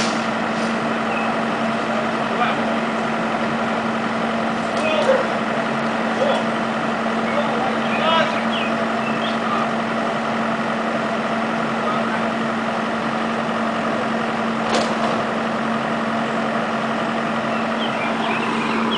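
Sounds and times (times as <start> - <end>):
heavy machinery engine running: 0.0 - 18.9.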